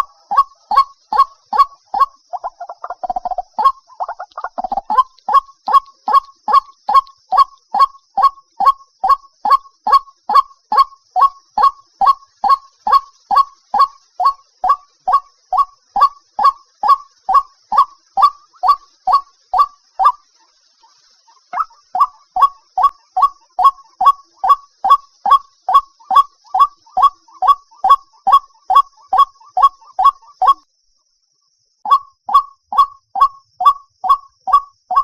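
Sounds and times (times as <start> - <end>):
waterhen calling: 0.0 - 30.6, 31.9 - 35.0.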